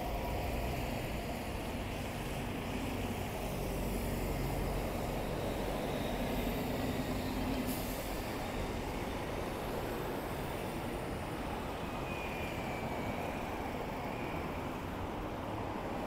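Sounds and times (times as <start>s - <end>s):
road traffic engine noise: 0.0s - 16.0s.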